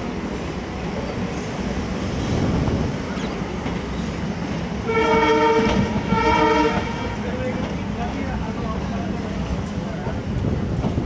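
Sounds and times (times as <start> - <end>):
train wheels rumbling over rails: 0.0 - 11.0.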